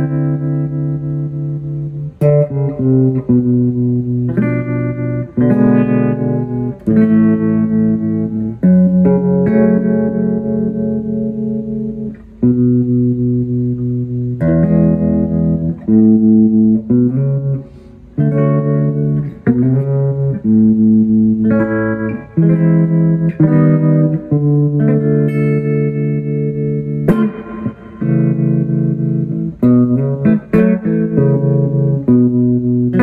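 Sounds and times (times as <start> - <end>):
electric guitar chords and notes: 0.0 - 33.0.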